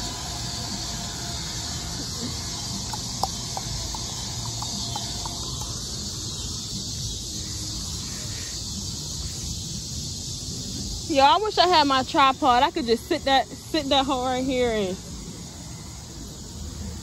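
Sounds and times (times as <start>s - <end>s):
high hiss of open air: 0.0s - 17.0s.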